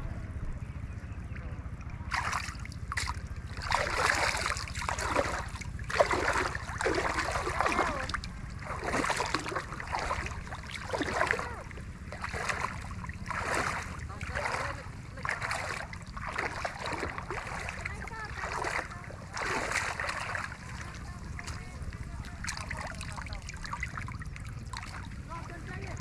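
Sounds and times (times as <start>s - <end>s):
steady low rumble: 0.0s - 26.0s
water splashing: 1.7s - 26.0s.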